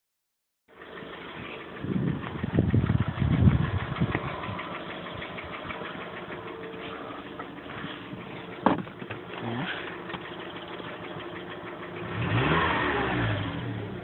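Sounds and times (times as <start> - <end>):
rapid engine knocking: 0.7 - 14.0
car engine revving: 0.8 - 14.0.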